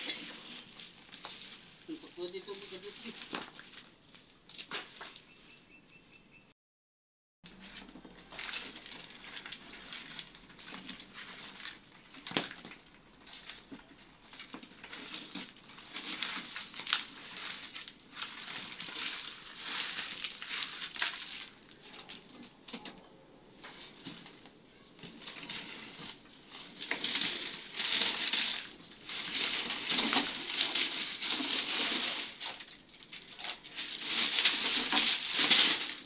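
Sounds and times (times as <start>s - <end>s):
gritty scraping and crumbling: 0.0s - 5.5s, 7.5s - 22.9s, 23.5s - 36.0s.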